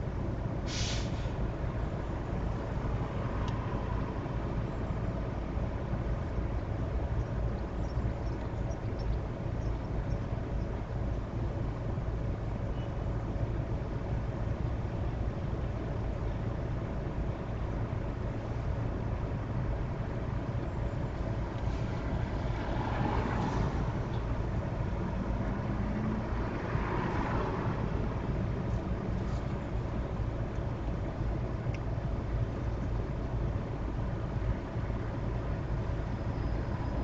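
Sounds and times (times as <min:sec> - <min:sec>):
idling traffic rumble: 0:00.0 - 0:37.0
vehicles passing alongside: 0:00.0 - 0:37.0.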